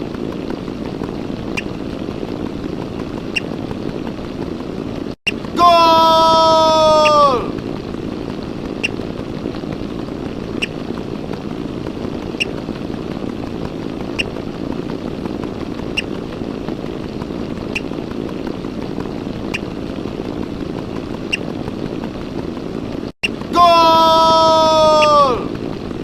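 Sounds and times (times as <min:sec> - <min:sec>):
low rumbling noise: 0:00.0 - 0:26.0.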